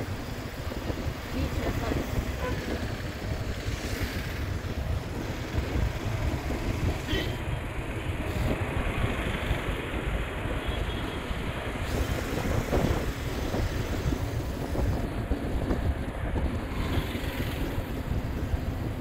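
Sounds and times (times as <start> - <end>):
wind buffeting microphone: 0.0 - 10.6, 11.2 - 19.0
motorbike engine and road noise: 0.0 - 19.0.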